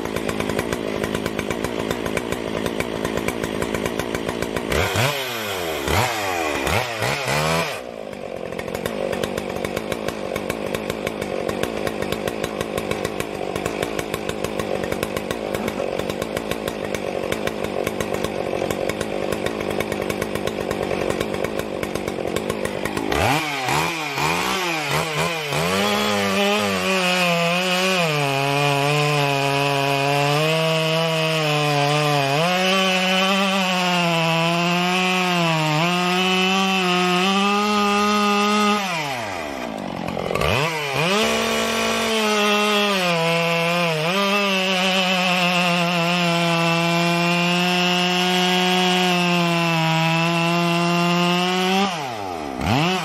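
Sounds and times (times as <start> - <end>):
chainsaw cutting wood: 0.0 - 53.0
chainsaw idling and revving: 0.0 - 53.0.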